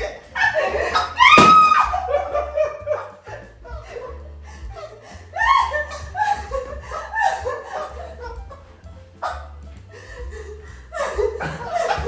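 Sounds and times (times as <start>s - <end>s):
woman laughing: 0.0s - 8.6s, 9.2s - 12.0s
background music: 0.0s - 12.0s.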